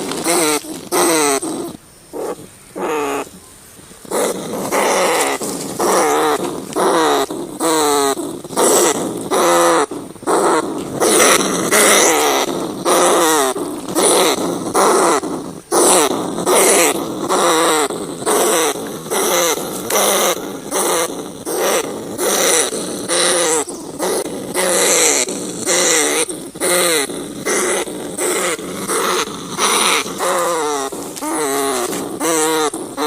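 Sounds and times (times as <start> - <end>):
rats squealing: 0.0 - 3.4, 4.0 - 33.0.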